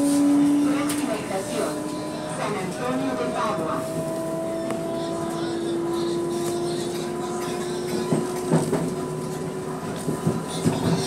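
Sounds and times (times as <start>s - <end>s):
train whine and rumble: 0.0s - 11.0s.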